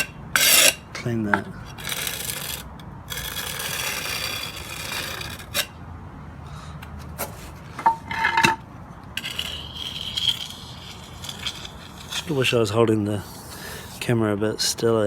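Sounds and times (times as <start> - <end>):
trowel scraping mortar: 0.0 - 5.7, 7.0 - 8.6, 9.2 - 14.2.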